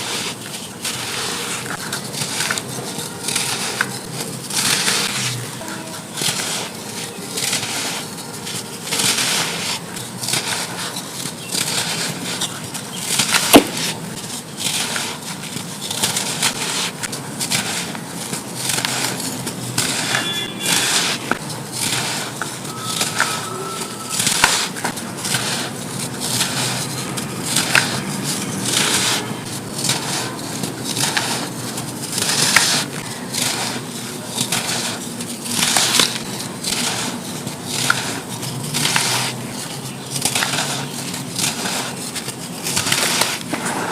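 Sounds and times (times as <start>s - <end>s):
sand lumps crumbling and crunching: 6.2s - 23.4s, 24.2s - 43.8s.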